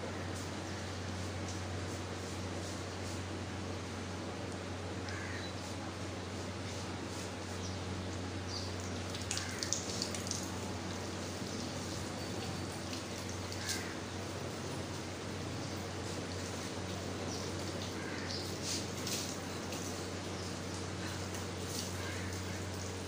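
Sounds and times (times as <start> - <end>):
low hum and hiss: 0.0 - 23.0.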